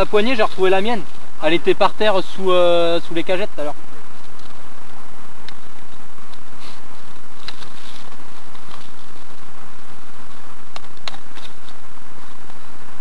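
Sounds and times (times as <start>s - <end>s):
dry leaves and clothing rustling: 0.0s - 13.0s.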